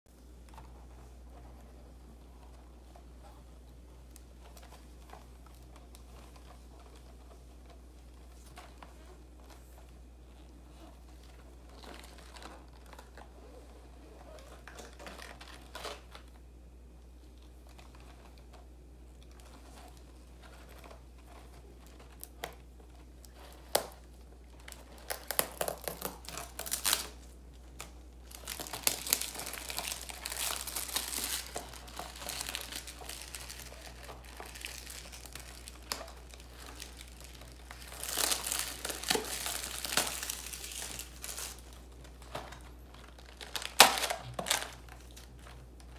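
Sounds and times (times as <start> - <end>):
cellophane crinkling: 0.3 - 16.5, 17.2 - 45.9.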